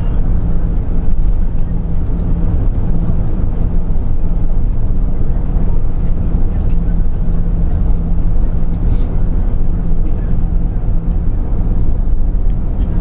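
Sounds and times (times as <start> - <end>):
idling jet engines rumble: 0.0 - 13.0
low hum: 0.0 - 13.0.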